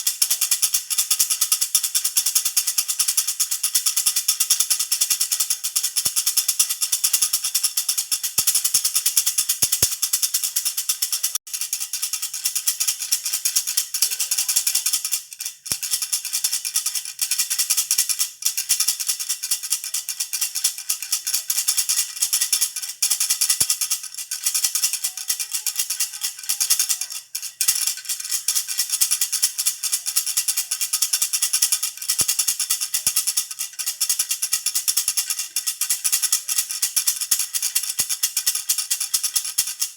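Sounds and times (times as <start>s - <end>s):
baby rattle shaken fast: 0.0s - 39.9s.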